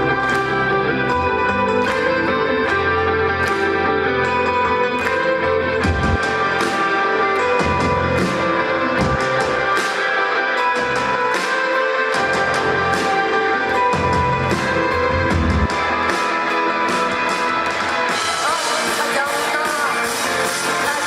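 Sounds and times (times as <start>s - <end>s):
electric guitar: 0.0s - 21.0s
rock band playing: 0.0s - 21.0s.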